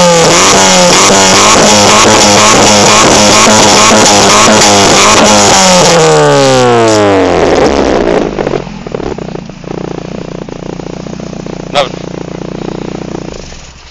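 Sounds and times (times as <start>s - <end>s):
car engine revving and idling: 0.0s - 13.9s.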